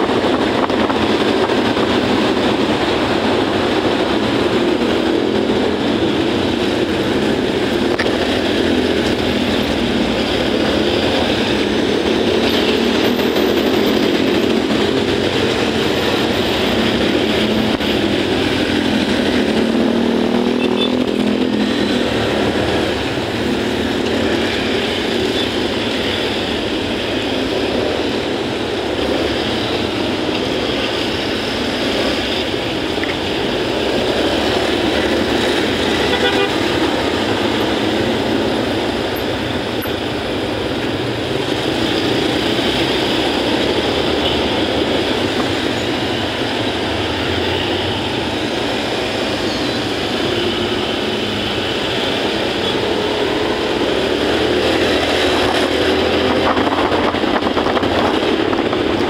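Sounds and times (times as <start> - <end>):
surrounding traffic: 0.0 - 59.0.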